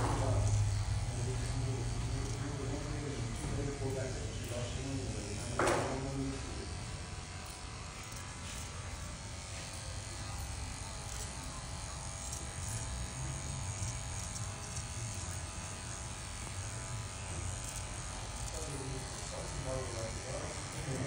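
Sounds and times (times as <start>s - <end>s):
electric hair clippers buzzing: 0.0s - 21.0s.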